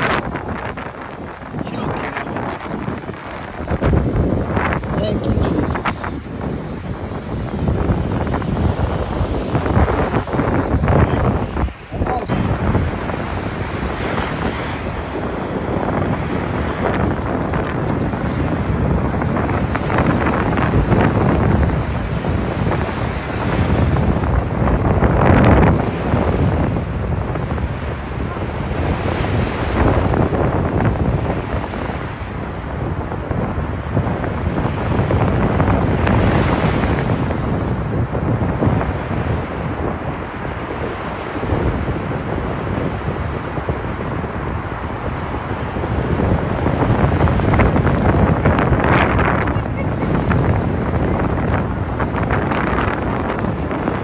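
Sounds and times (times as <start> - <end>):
waves breaking on beach: 0.0 - 54.0
wind buffeting microphone: 0.0 - 54.0.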